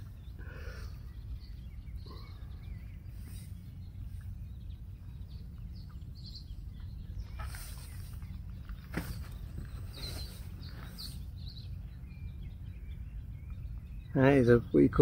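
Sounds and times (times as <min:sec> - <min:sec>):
faint bird chirps: 0:00.0 - 0:15.0
low steady rumble: 0:00.0 - 0:15.0.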